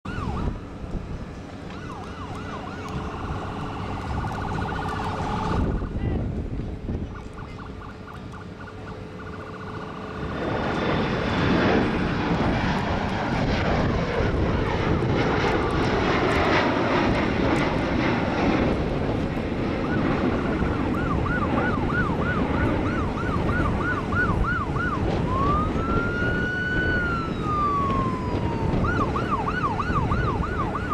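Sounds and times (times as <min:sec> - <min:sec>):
emergency vehicle siren: 0:00.0 - 0:06.2, 0:06.9 - 0:30.9
jet engines rumbling: 0:00.1 - 0:30.9.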